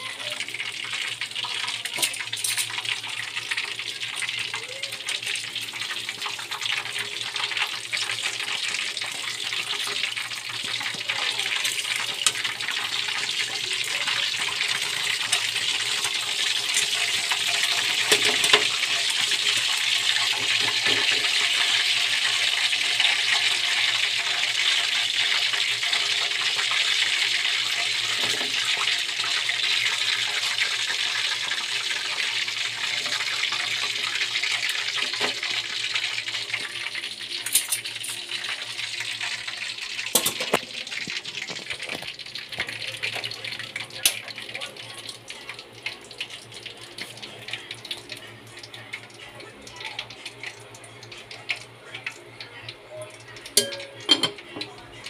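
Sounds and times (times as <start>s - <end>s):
oil sizzling in wok: 0.0s - 55.0s.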